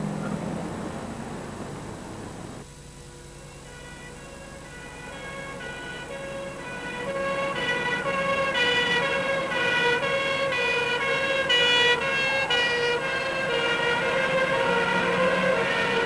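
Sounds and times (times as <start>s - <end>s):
traffic: 0.0s - 16.0s
two-tone emergency siren: 0.0s - 16.0s.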